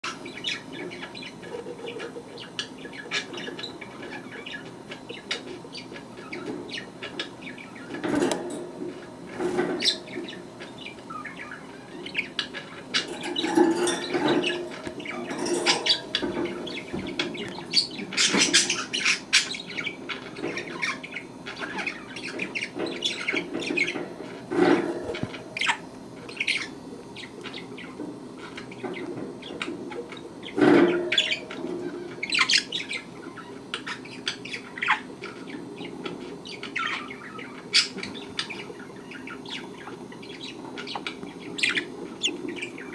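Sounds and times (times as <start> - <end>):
budgerigars chirping: 0.0 - 42.9.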